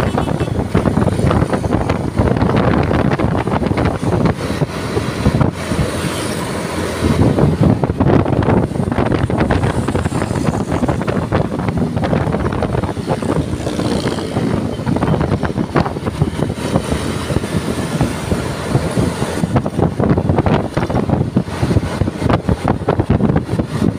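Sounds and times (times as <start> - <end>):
vehicle rumble: 0.0 - 23.9.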